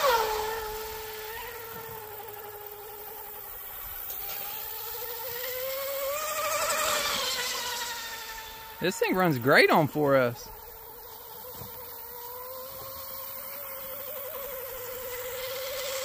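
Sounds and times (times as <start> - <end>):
rc boat motor whine: 0.0 - 16.0.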